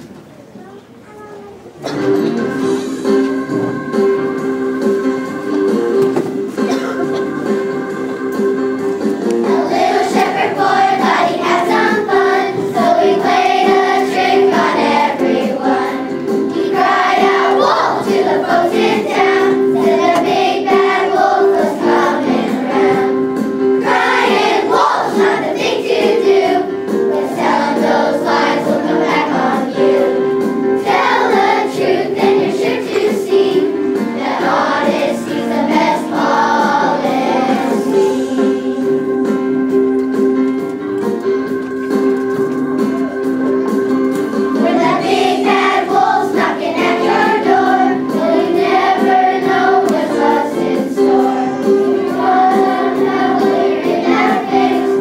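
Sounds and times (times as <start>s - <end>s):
instrumental accompaniment: 0.1s - 55.0s
children's choir singing: 1.8s - 39.8s, 44.1s - 55.0s.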